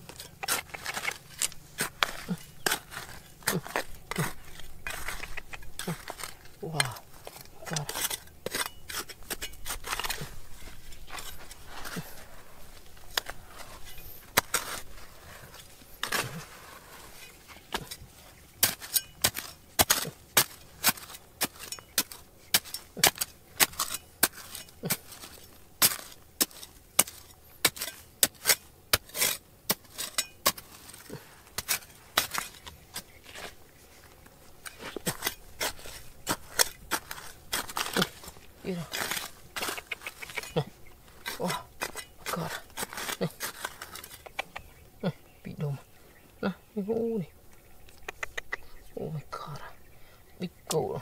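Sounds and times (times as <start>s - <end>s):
hand tools striking rock: 0.0s - 12.3s, 12.9s - 16.5s, 17.7s - 44.7s.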